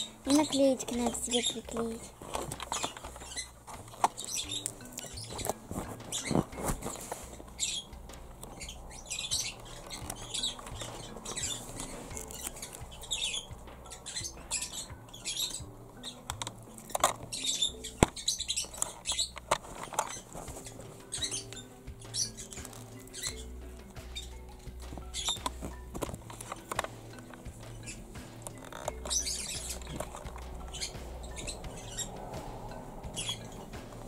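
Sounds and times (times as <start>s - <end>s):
plastic toy rustling and clicking: 0.3s - 13.4s, 15.4s - 31.8s.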